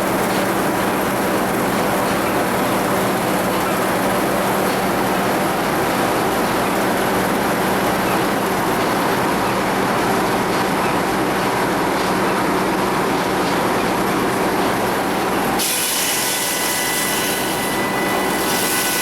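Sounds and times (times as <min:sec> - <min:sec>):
sawmill machinery running: 0:00.0 - 0:19.0.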